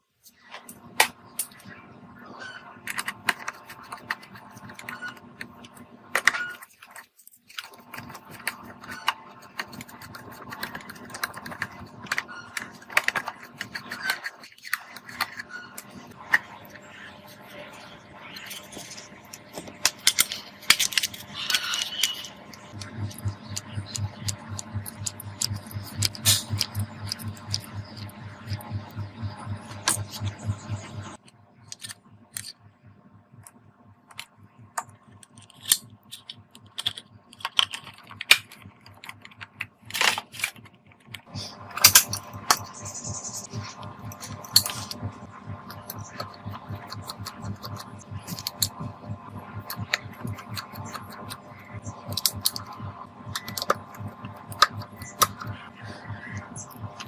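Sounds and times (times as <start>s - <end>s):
steady electric hum: 0.0s - 57.0s.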